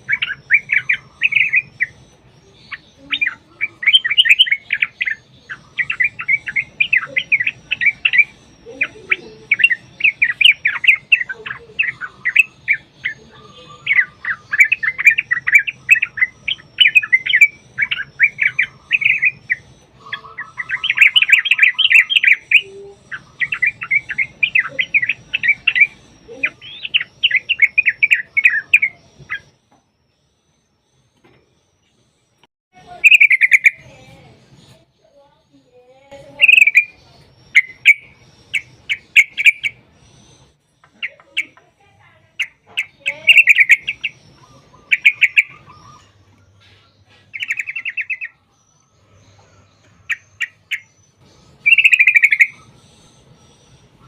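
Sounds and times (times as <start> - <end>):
bulbul chattering song: 0.0 - 54.0.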